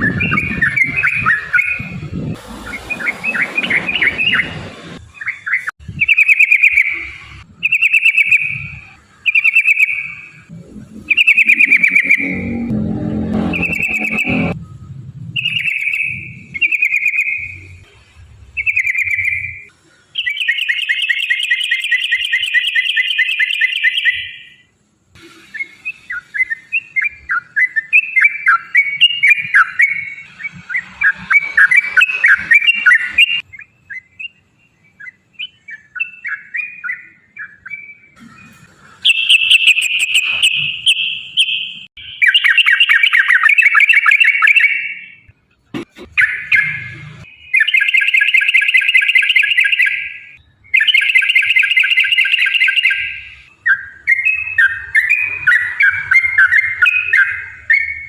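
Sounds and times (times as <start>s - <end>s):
bulbul singing trills: 5.1s - 14.6s, 15.3s - 17.8s, 18.6s - 24.7s, 25.6s - 45.3s, 46.2s - 58.0s.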